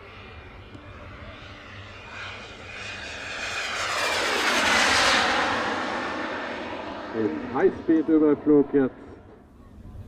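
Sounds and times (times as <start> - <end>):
model airplane engine flying past: 0.0 - 10.0.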